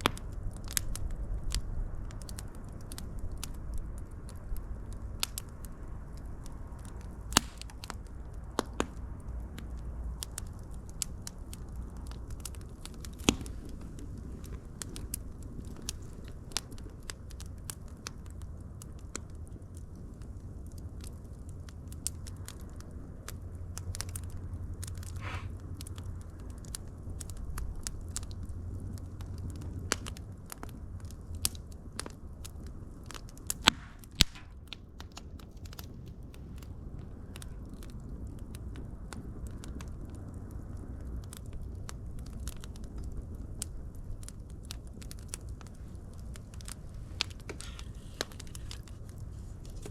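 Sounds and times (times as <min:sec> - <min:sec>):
fire crackling and popping: 0:00.0 - 0:49.9
wood fire rumbling: 0:00.0 - 0:49.9.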